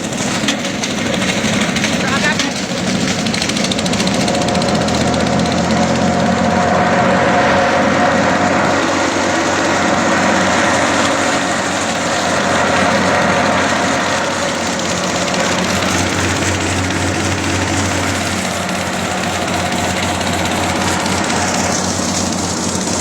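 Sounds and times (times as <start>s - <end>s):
grinding machine running: 0.0s - 23.0s.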